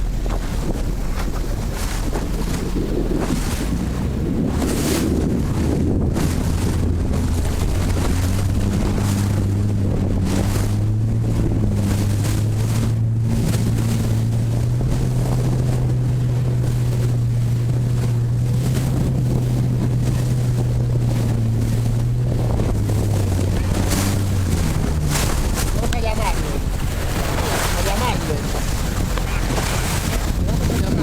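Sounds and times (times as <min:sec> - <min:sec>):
boat engine droning: 0:00.0 - 0:31.0
wind buffeting microphone: 0:00.0 - 0:31.0.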